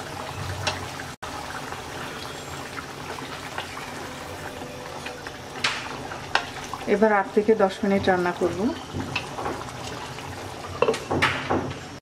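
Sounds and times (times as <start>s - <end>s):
curry bubbling in a pan: 0.0s - 12.0s.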